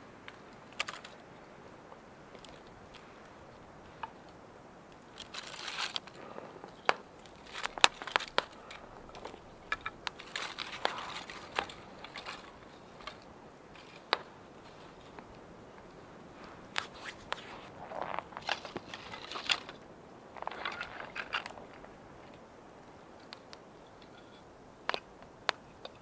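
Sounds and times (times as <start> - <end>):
wood shavings rustling: 0.0 - 23.7.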